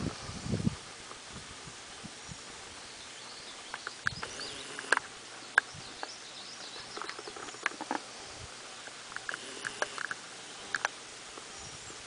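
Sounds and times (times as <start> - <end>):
faint bird calls: 2.2 - 12.0.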